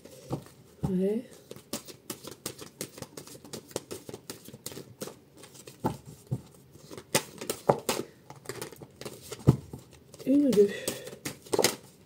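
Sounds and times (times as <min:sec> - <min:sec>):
cards being shuffled: 0:01.3 - 0:12.0.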